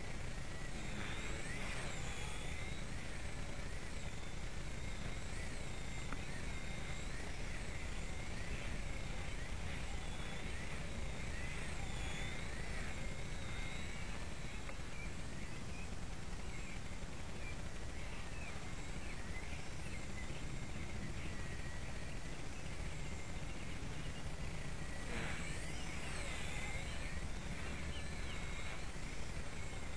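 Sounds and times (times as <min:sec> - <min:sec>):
rc helicopter rotor whine: 0:00.0 - 0:29.9.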